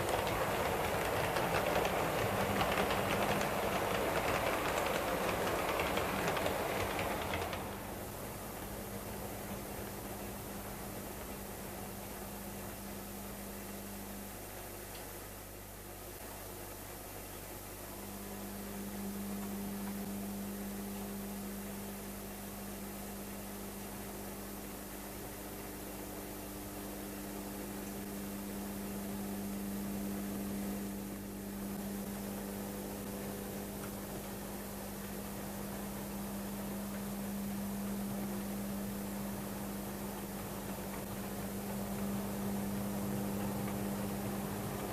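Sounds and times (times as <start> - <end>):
constant hiss: 0.0 - 44.9
model locomotive low hum: 0.0 - 44.9.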